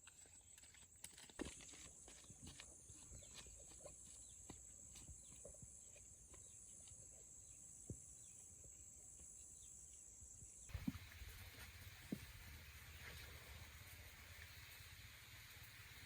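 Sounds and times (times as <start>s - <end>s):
crickets droning: 0.2s - 16.0s.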